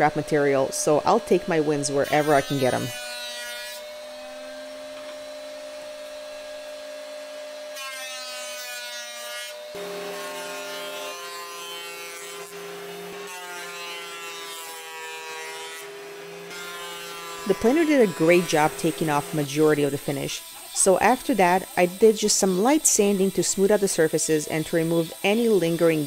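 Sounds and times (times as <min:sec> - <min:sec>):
thickness planer motor whine: 0:00.0 - 0:13.3, 0:15.8 - 0:26.0.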